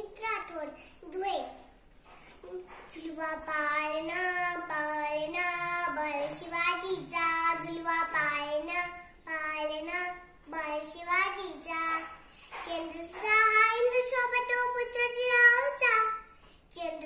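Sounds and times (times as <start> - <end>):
girl singing: 2.4 - 17.0.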